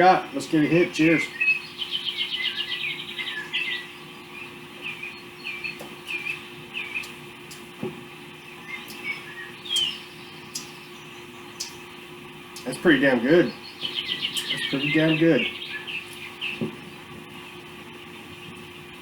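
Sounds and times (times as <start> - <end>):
faint steady hum: 0.0 - 19.0
small birds chirping: 0.3 - 18.6.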